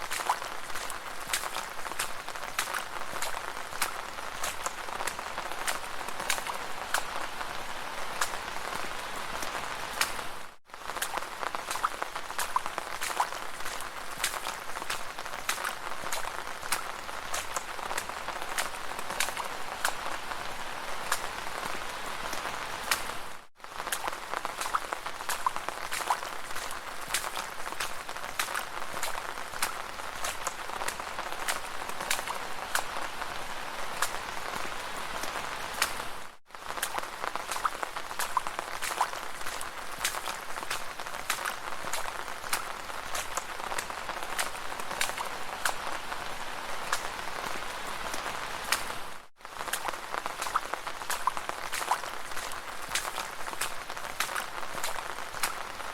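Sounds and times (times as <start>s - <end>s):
footsteps splashing through puddles: 0.0s - 55.9s.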